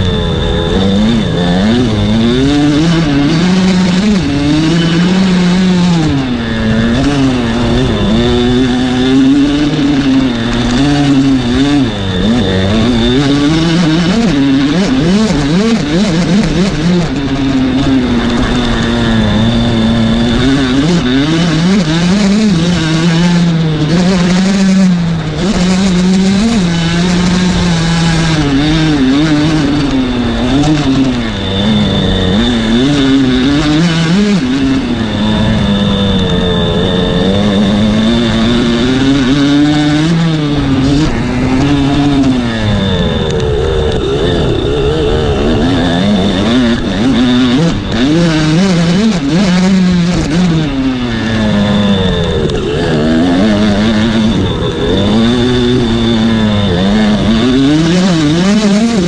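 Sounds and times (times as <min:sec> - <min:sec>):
dirt bike engine running hard: 0:00.0 - 0:59.0.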